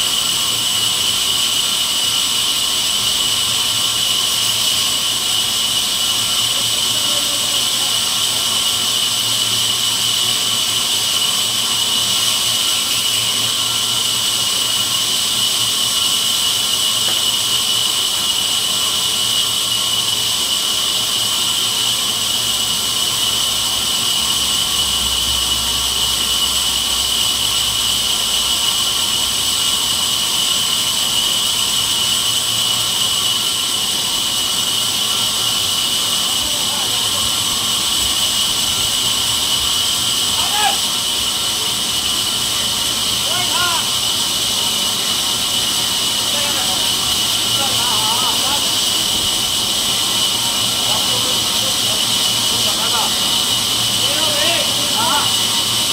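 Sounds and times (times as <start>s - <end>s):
band saw running: 0.0s - 55.9s.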